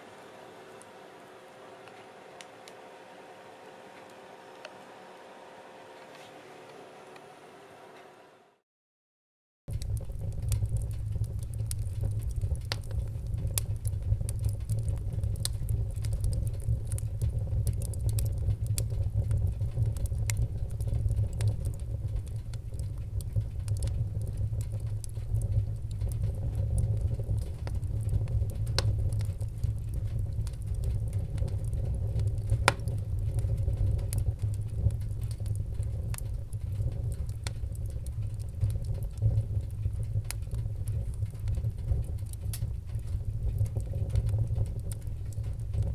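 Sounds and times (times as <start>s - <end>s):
wood fire crackling and popping: 0.0s - 4.8s, 9.7s - 45.9s.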